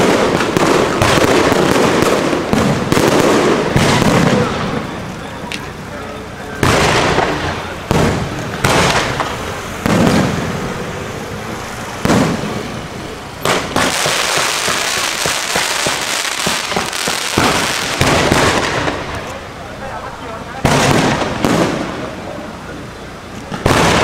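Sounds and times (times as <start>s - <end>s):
fireworks bangs: 0.0s - 24.0s
fireworks crackling barrage: 0.0s - 24.0s
steady hiss: 0.0s - 24.0s.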